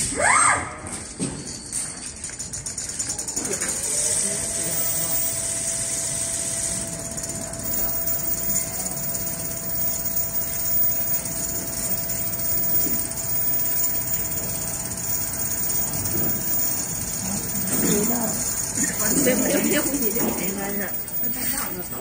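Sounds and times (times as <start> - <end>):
sewing machine mechanical chatter: 2.1 - 22.0
thin high whine: 2.9 - 22.0.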